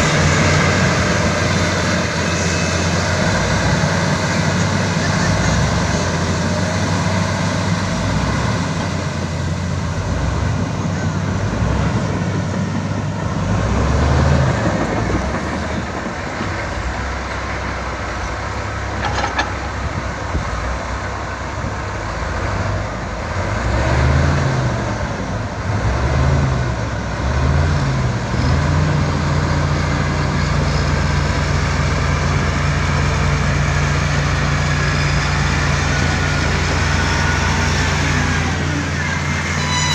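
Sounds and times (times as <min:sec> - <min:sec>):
diesel machinery engine revving: 0:00.0 - 0:39.8.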